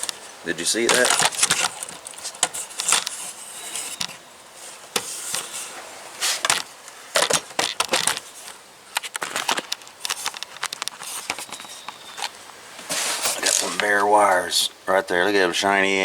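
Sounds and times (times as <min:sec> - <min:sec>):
mower parts clicking and rattling: 0:00.0 - 0:14.5.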